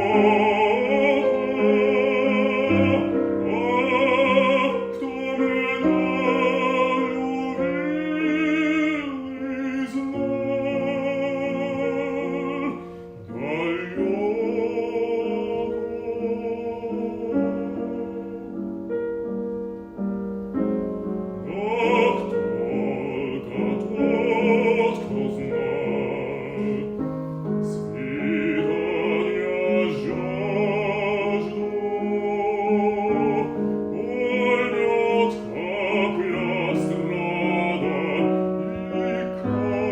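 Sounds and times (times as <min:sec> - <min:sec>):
bass singing operatically: 0:00.0 - 0:19.7, 0:20.4 - 0:39.9
piano accompaniment: 0:00.0 - 0:39.9.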